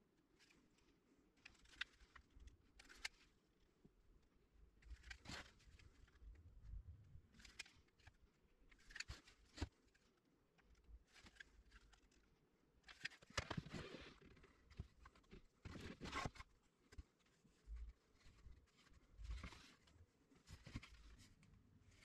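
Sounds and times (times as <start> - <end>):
handling scrapes and clicks: 0.3 - 3.4, 7.3 - 22.0.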